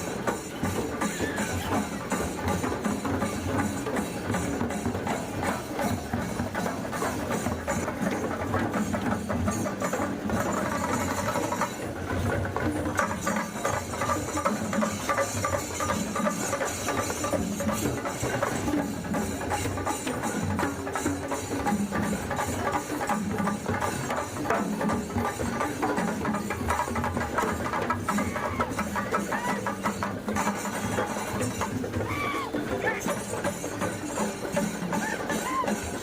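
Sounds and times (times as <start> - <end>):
drum percussion music: 0.0 - 36.0.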